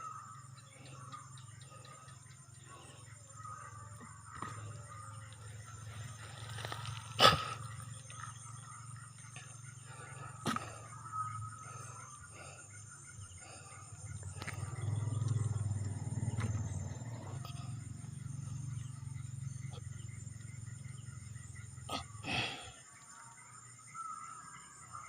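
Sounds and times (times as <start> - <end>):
night insects chirring: 0.0 - 25.0.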